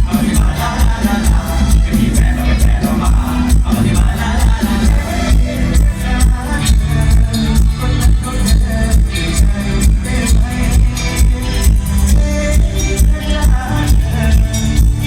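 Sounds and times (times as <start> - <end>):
dance music with heavy bass beat: 0.0 - 15.0.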